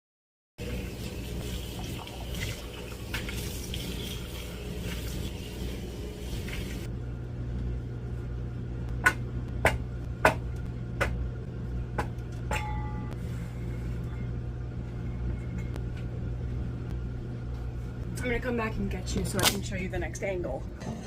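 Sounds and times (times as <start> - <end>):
low machinery hum: 0.6 - 21.0.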